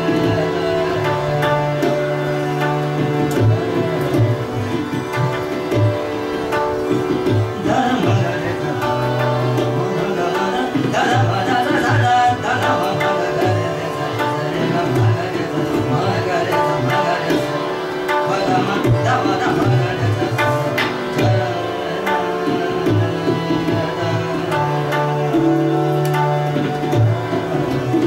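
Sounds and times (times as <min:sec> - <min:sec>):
tabla strokes: 0:00.0 - 0:28.0.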